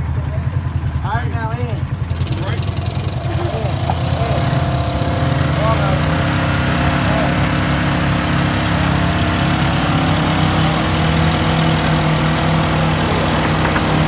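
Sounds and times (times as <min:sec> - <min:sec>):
vehicle engine idling low: 0:00.0 - 0:14.0.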